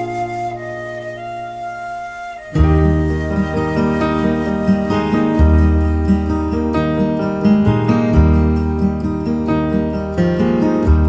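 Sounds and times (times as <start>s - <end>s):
slow instrumental ballad: 0.0s - 11.0s.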